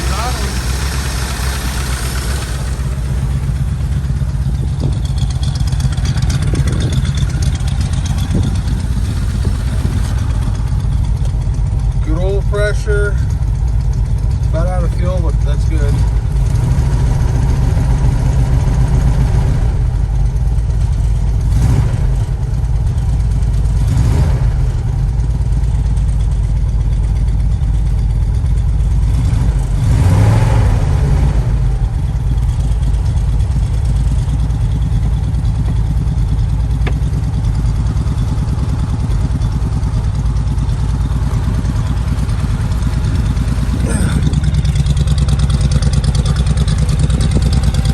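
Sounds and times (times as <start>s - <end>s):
pickup engine idling: 0.0s - 47.9s.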